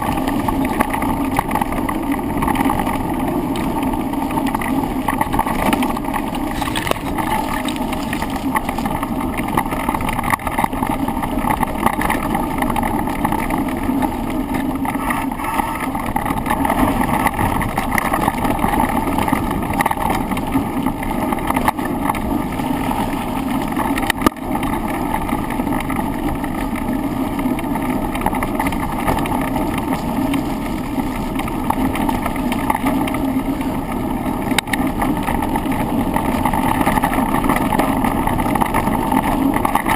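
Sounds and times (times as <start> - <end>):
riding vibration: 0.0 - 39.9
wind rumble: 0.0 - 39.9.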